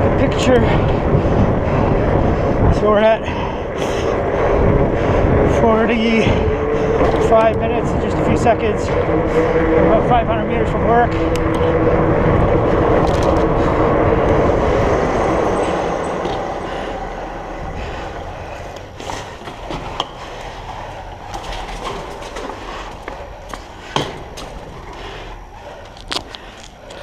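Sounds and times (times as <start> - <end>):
tyre roar on pavement: 0.0 - 27.0
wind rush: 0.0 - 27.0.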